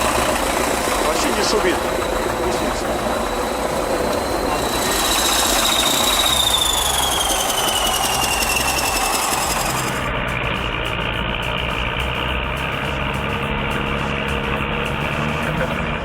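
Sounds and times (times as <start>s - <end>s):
high whine falling in pitch: 0.0s - 14.8s
steady low hum: 0.0s - 15.7s
bulldozer diesel engine: 0.0s - 16.0s.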